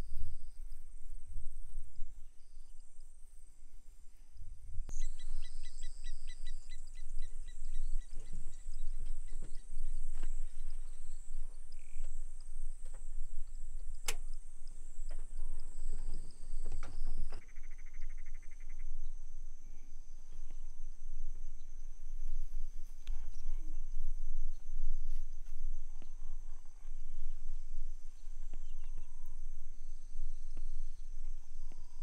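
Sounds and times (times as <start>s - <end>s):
insects chirring: 0.0s - 32.0s
low rumble: 0.0s - 32.0s.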